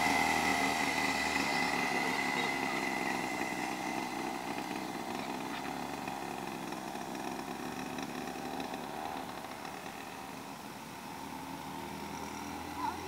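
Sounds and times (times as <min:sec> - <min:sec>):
small quad bike engine running: 0:00.0 - 0:13.0.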